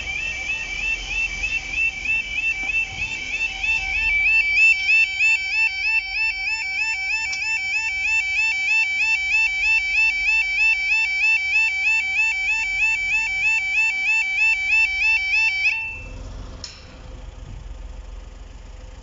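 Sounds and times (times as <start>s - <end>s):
level crossing warning alarm: 0.0s - 16.2s.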